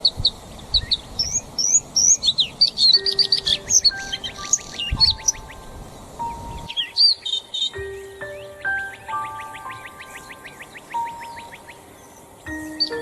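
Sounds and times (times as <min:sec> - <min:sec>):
songbirds chirping and twittering: 0:00.0 - 0:13.0
soft background music: 0:00.9 - 0:13.0.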